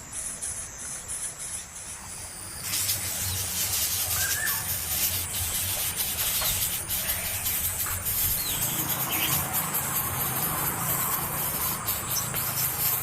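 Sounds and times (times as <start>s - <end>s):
crickets chirping: 0.0s - 13.0s
loud steady hiss: 0.0s - 13.0s.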